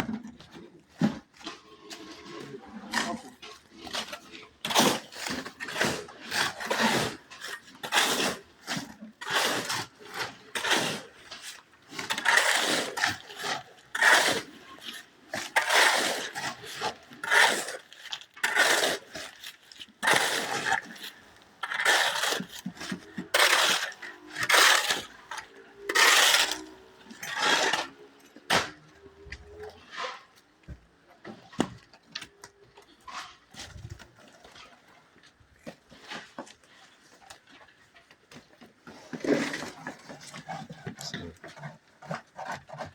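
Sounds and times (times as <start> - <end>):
shovels scraping concrete mix: 0.0 - 42.9.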